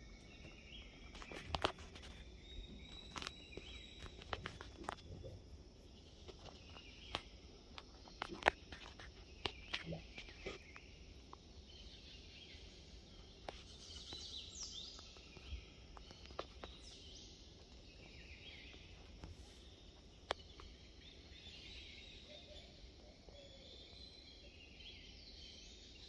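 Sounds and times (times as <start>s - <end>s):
bird chirps: 0.0s - 26.0s.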